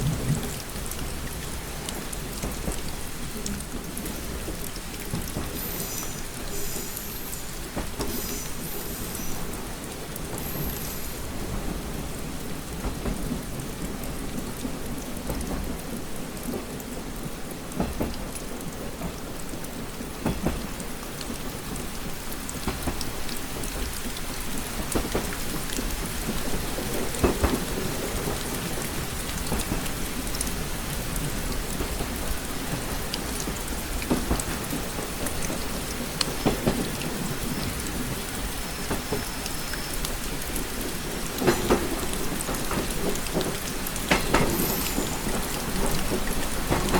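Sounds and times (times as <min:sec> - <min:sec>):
rain pattering on a window: 0:00.0 - 0:46.9.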